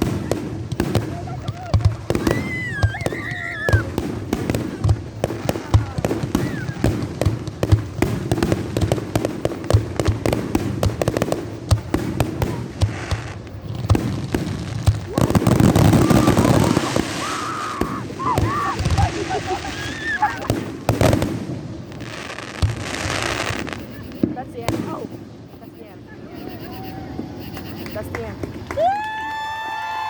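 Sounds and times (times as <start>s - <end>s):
fireworks pops and bangs: 0.0s - 25.4s, 26.6s - 30.0s.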